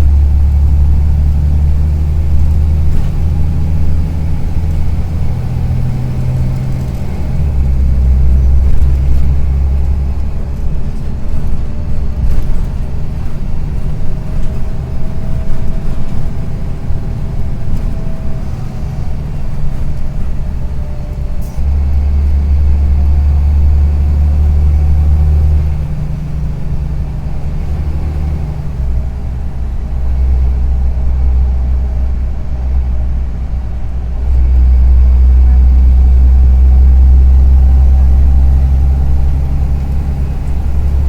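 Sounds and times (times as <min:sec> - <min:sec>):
bus engine rumbling: 0:00.0 - 0:41.0.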